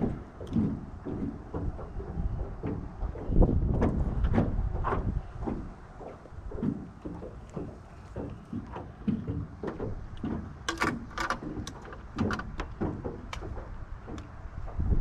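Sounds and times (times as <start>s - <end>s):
hollow knocks in metal boat: 0.0s - 15.0s
wind on microphone: 0.0s - 15.0s.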